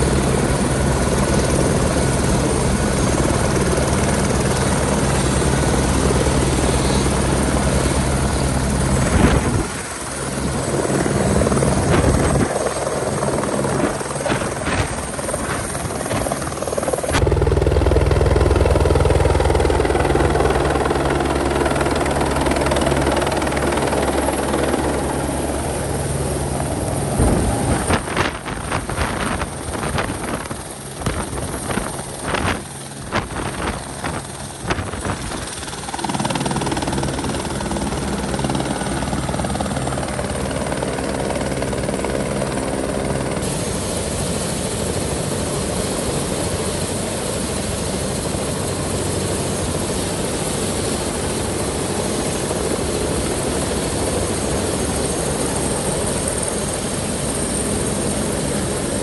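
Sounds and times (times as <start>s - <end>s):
helicopter turbine and rotor: 0.0s - 59.0s.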